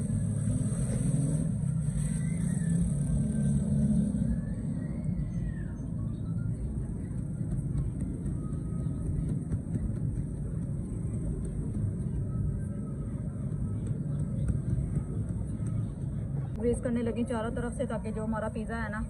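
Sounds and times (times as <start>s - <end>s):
distant street traffic rumble: 0.0s - 19.0s.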